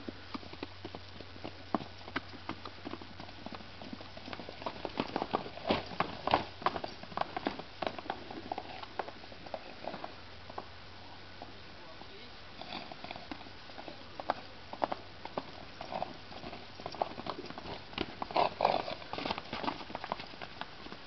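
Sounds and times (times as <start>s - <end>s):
horse hooves on sand: 0.0s - 21.0s.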